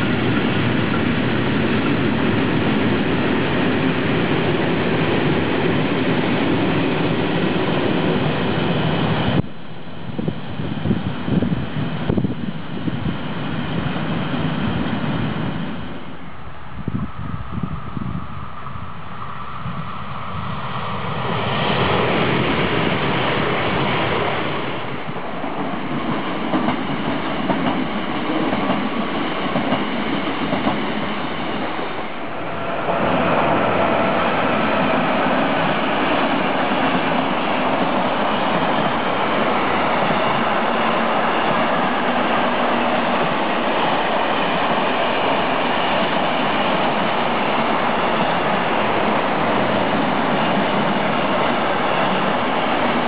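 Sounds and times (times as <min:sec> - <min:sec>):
electric train passing: 0:00.0 - 0:53.0
freight train wheels rolling on rails: 0:00.0 - 0:53.0.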